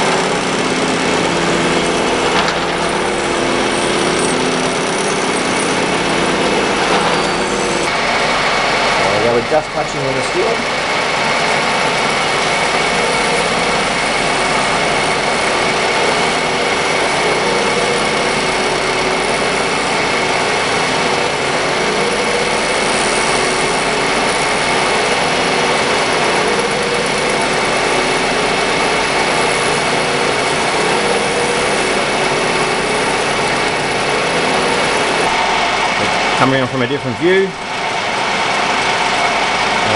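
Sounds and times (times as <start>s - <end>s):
high whine: 0.0s - 39.9s
milling machine cutting steel: 0.0s - 39.9s.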